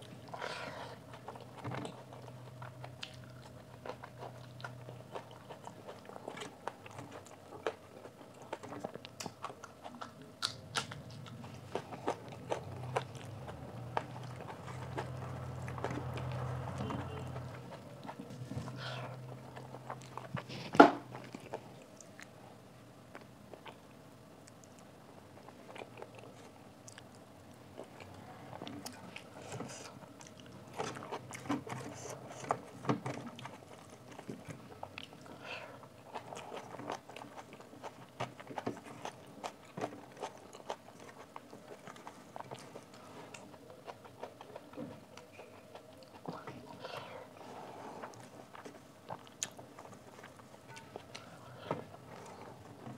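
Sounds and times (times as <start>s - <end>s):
wet chewing and lip smacking: 0.0s - 22.4s, 23.1s - 52.9s.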